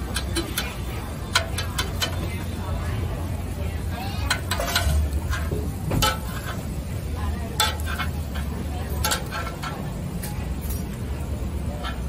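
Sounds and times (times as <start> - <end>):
dishes and utensils clinking: 0.0 - 2.7, 4.2 - 12.0
market background hum: 0.0 - 12.0.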